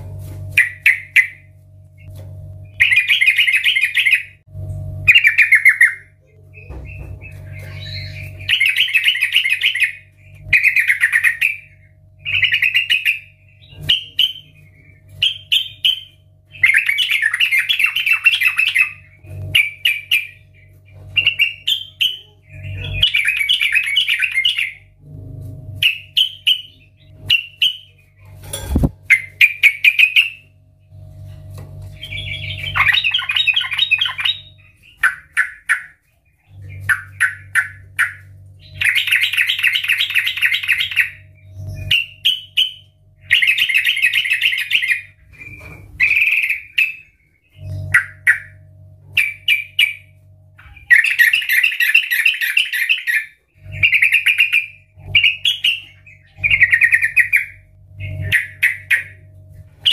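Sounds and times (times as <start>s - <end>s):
bird singing chattering phrases: 0.6s - 2.1s, 2.7s - 4.4s, 5.0s - 25.0s, 25.8s - 30.5s, 31.9s - 59.9s.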